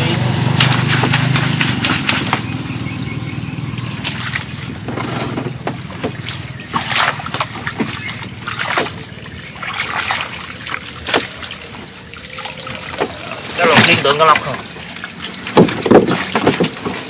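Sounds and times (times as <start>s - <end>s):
low steady hum: 0.0s - 17.0s
water splashing and trickling: 0.0s - 17.0s.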